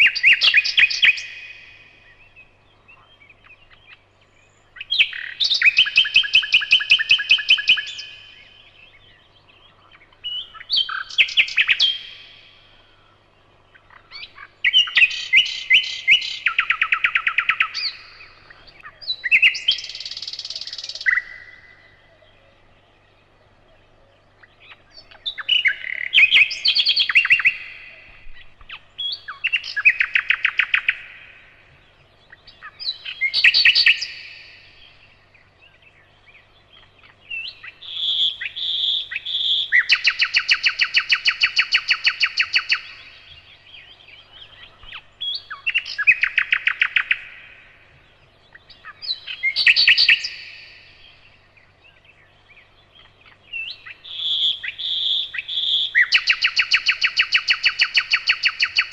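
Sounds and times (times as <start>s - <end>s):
nightingale singing: 0.0s - 58.9s.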